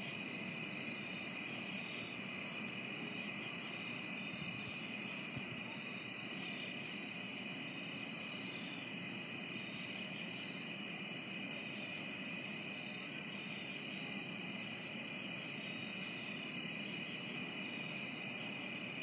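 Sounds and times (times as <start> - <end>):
crickets and insects chirring: 0.0 - 19.0.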